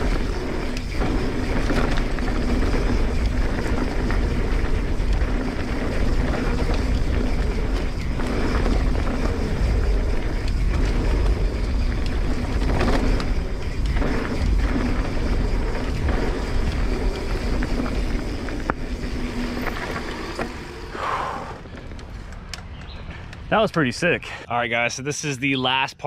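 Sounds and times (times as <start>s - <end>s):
wind buffeting microphone: 0.0s - 23.4s
bike clattering over bumps: 0.0s - 23.7s
mountain bike rumble on dirt: 0.0s - 23.7s.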